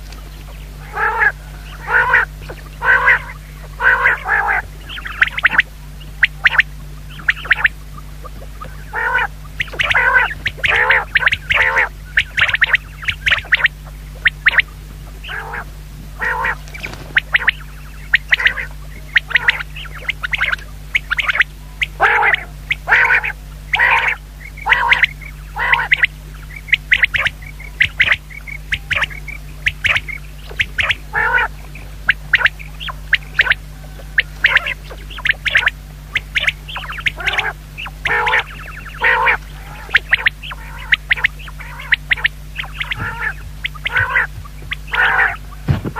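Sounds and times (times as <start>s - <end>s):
low hum: 0.0s - 45.9s
quail calling: 0.0s - 45.9s.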